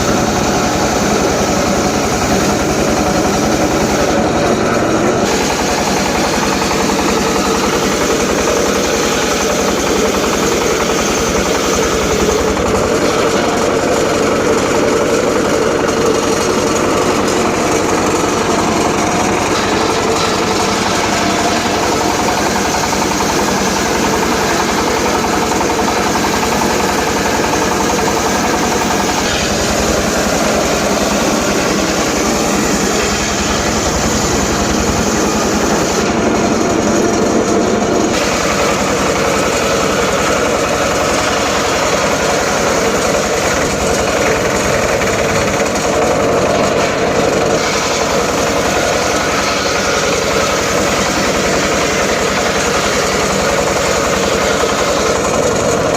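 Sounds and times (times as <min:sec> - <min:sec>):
circular saw cutting wood: 0:00.0 - 0:55.9.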